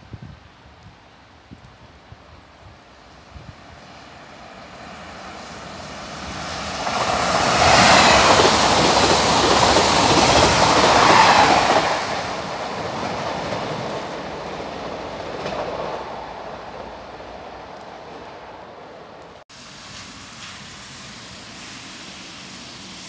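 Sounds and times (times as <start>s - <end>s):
train passing with rushing noise: 0.0s - 23.0s.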